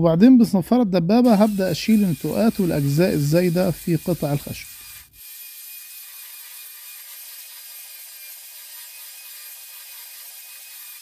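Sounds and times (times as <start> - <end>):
belt sander whirring: 1.3 - 11.0.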